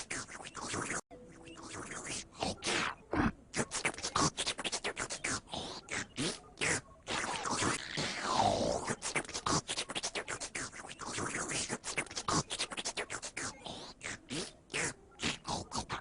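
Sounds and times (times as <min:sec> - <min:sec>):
record scratching: 0:00.0 - 0:16.0.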